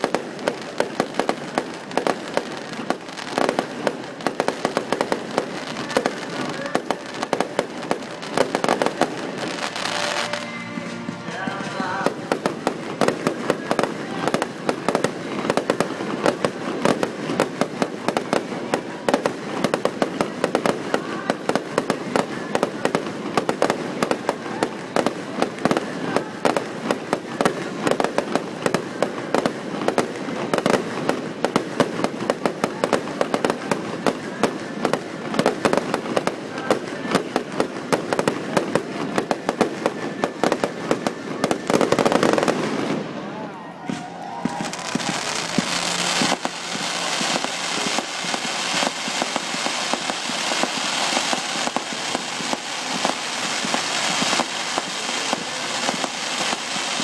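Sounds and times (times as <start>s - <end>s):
fireworks bursts and bangs: 0.0s - 57.0s.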